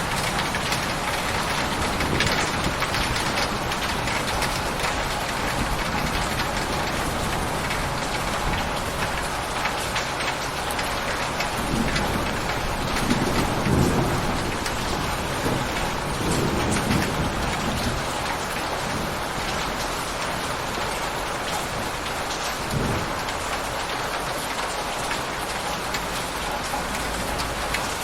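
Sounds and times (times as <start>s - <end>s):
thunder rumbling: 0.0s - 10.0s, 10.8s - 28.0s
heavy rain: 0.0s - 28.0s.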